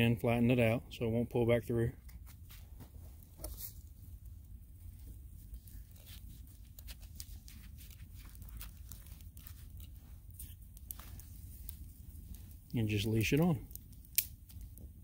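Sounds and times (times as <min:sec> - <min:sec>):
soft rustles of handling: 0:01.7 - 0:15.0.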